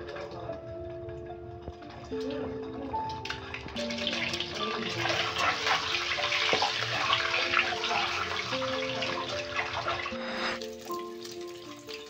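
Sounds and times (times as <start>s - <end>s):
eggs sizzling in hot oil: 0.9s - 12.0s.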